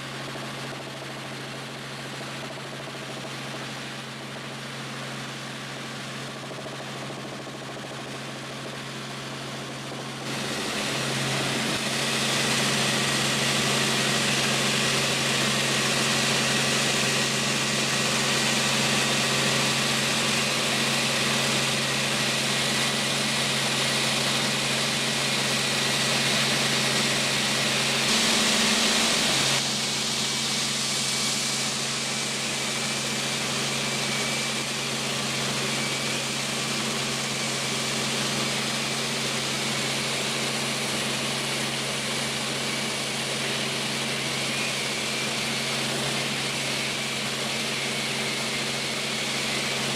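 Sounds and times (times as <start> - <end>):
helicopter engine and rotor: 0.0 - 49.9.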